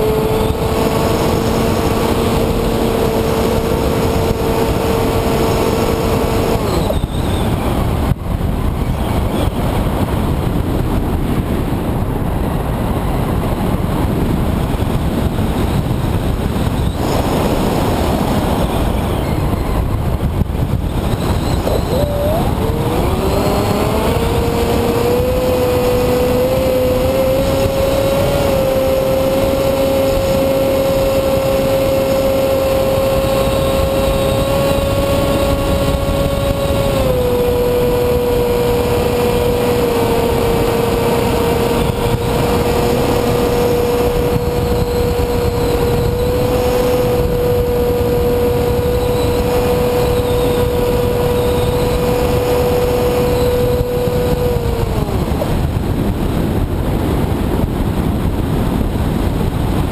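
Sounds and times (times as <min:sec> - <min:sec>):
electric propeller motor whine: 0:00.0 - 0:09.8, 0:15.0 - 0:56.3
wind noise: 0:00.0 - 0:59.9.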